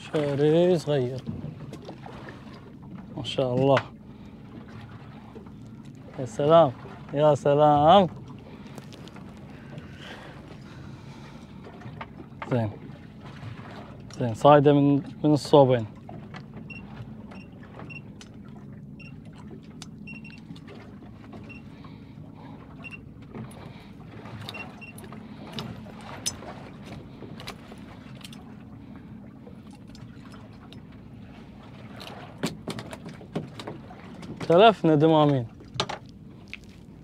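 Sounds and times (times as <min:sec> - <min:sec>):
boat engine idling: 0:00.0 - 0:37.0.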